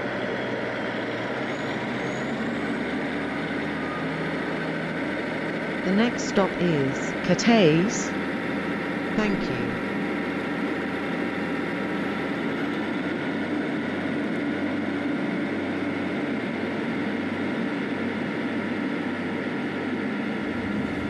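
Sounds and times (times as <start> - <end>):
train running hum: 0.0 - 21.0.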